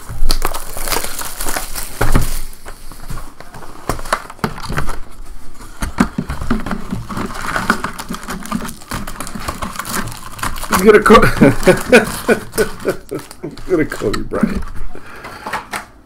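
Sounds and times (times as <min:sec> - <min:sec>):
shrink-wrap plastic crinkling: 0:00.0 - 0:15.0
rustles clicks and knocks: 0:01.5 - 0:16.0.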